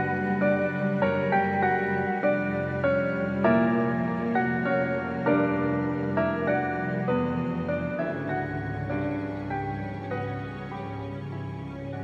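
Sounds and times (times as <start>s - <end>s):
slow sad instrumental music: 0.0s - 12.0s.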